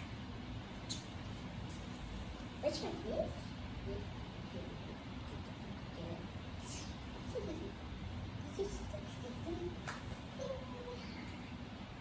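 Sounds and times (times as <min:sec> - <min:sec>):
low background rumble and hiss: 0:00.0 - 0:12.0.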